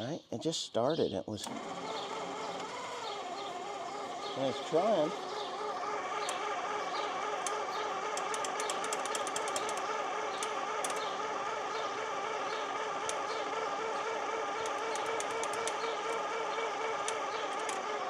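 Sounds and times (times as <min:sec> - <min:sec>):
sharp clicks: 0:01.4 - 0:18.0
small engine running with warbling pitch: 0:01.5 - 0:18.0.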